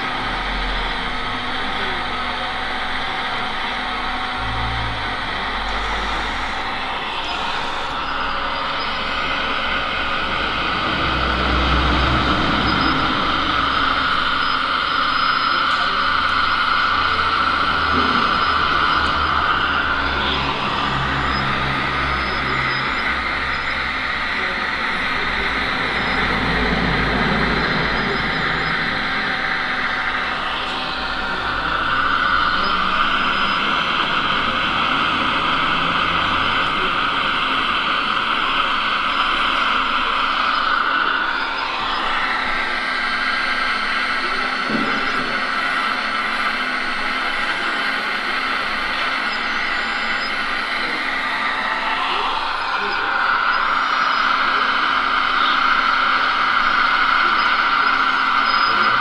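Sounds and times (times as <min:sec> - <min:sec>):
hydraulic pump whirring: 0:00.0 - 0:59.0.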